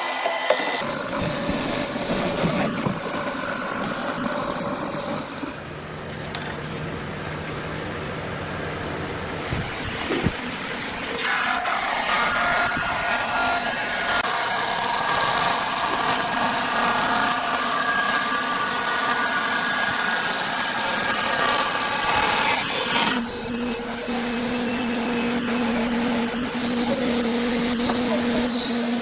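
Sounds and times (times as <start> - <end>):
woodworking machine whining: 0.0 - 6.5, 9.4 - 29.0.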